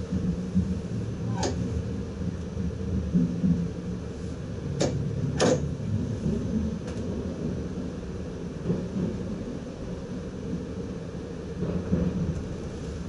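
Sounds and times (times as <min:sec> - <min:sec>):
train cab low hum: 0:00.0 - 0:13.0.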